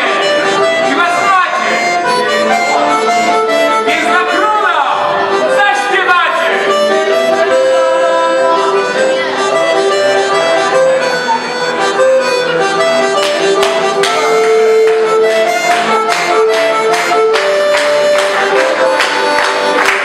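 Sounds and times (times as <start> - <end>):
piano accordion melody: 0.0 - 20.0
sharp rhythmic beats: 0.0 - 20.0.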